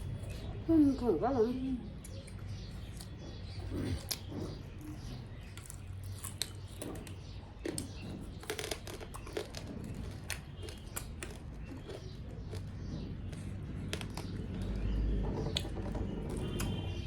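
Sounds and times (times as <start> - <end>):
chewing and crunching fried chicken: 0.0 - 0.7, 1.8 - 17.0.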